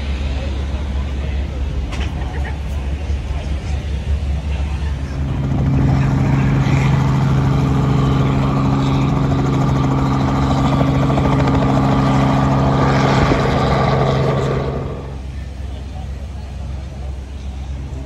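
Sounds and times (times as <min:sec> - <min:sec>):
helicopter engine and rotors: 0:00.0 - 0:18.0.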